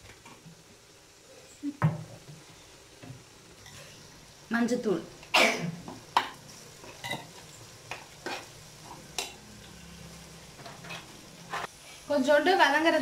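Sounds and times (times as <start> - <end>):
faint frying sizzle: 0.0 - 13.0.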